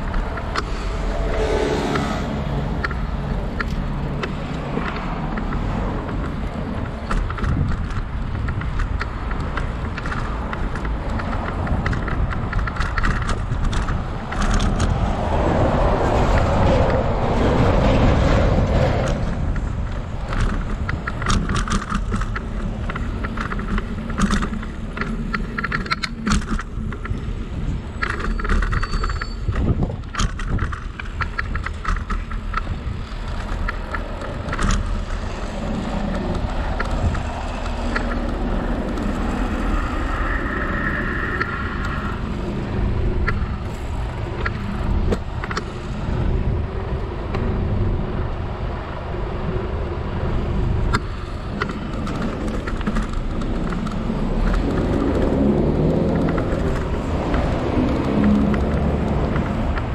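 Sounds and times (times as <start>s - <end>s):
bike rattling and clicking: 0.0s - 59.9s
wind and tyre rumble: 0.0s - 59.9s.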